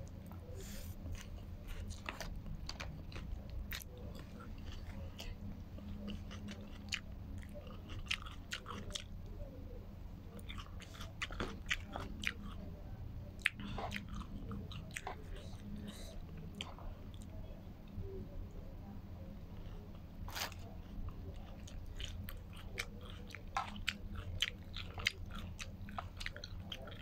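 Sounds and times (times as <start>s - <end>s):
person chewing noodles: 0.0s - 9.2s, 10.3s - 12.7s, 13.3s - 17.4s, 19.6s - 27.0s
low steady hum: 0.0s - 27.0s.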